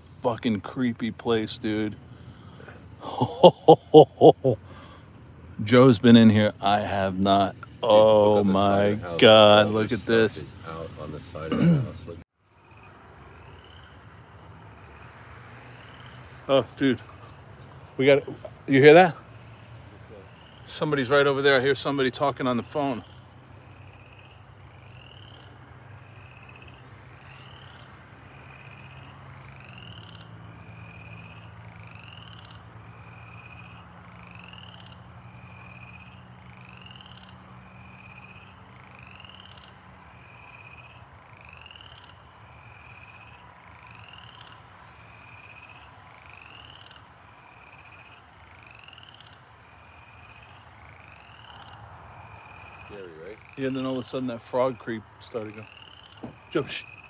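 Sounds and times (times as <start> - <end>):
frog calling: 0.0 - 11.8, 12.4 - 57.0.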